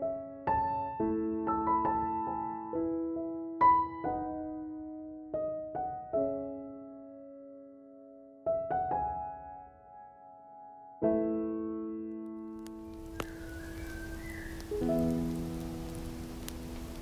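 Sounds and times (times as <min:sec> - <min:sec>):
gentle piano chords: 0:00.0 - 0:17.0.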